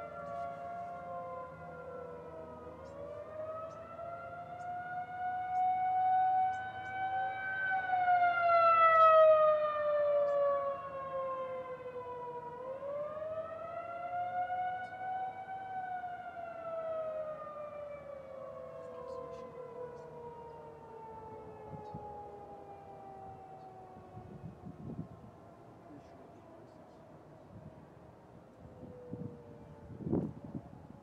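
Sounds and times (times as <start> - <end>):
wavering warning siren: 0.0 - 31.0.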